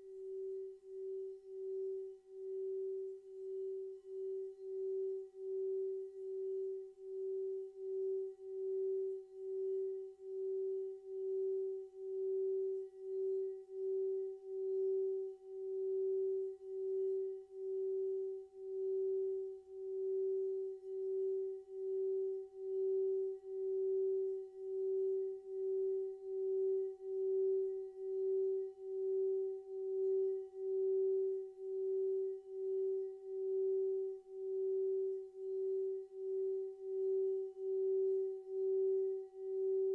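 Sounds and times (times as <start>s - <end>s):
singing bowl humming: 0.0s - 39.9s.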